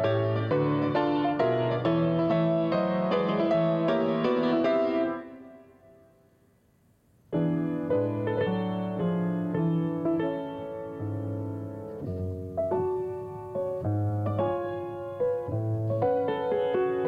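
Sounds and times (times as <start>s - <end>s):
grand piano chords: 0.0s - 6.4s, 7.3s - 17.0s.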